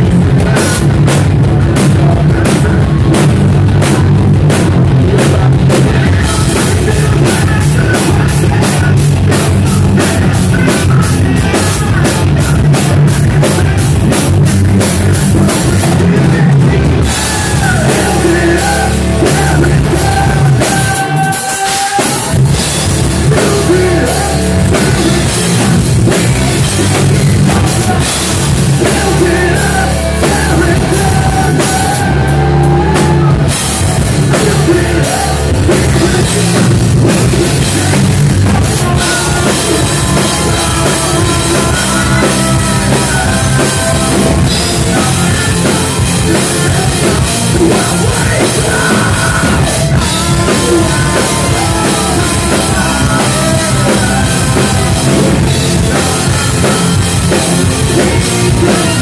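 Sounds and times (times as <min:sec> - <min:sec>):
bass guitar: 0:00.0 - 0:59.0
drum kit: 0:00.0 - 0:59.0
electric guitars: 0:00.0 - 0:59.0
man singing: 0:00.0 - 0:59.0.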